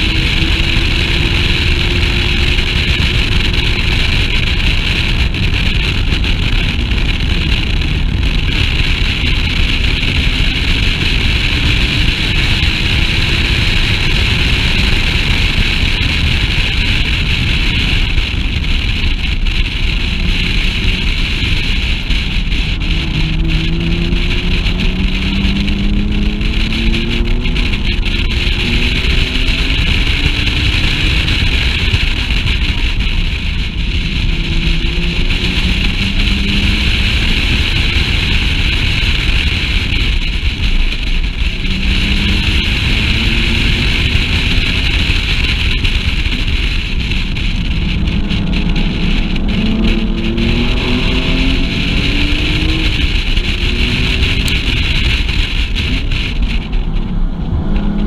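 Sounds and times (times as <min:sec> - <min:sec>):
sports car engine accelerating: 0:00.0 - 0:58.0
wind buffeting microphone: 0:00.0 - 0:58.0.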